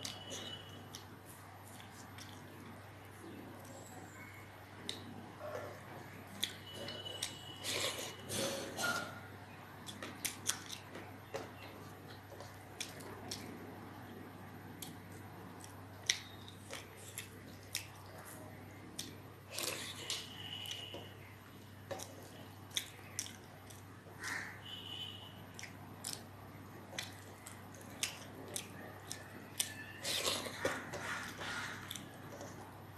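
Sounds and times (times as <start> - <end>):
chewing: 0.0 - 9.2, 9.8 - 24.1, 25.5 - 32.8.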